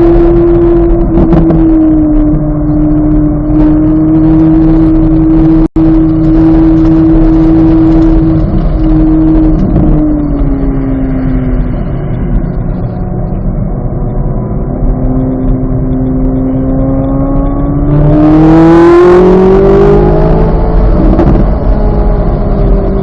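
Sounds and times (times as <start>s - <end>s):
sports car engine at speed: 0.0s - 23.0s.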